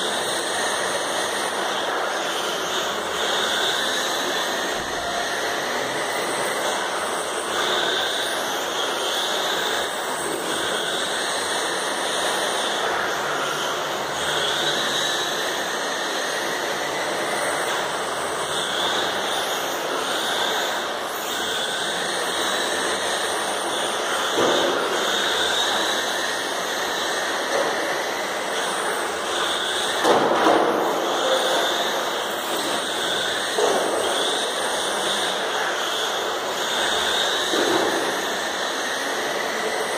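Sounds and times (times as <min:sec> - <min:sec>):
rc car motor whine: 0:00.0 - 0:39.9.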